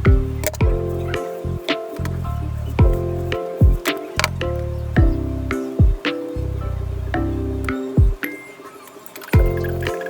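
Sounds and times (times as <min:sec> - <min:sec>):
electronic track with deep bass: 0:00.0 - 0:08.4, 0:09.2 - 0:10.0.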